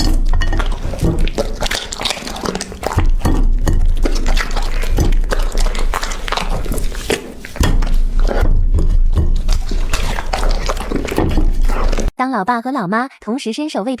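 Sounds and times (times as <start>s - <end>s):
puppy chewing wetly: 0.0s - 12.1s.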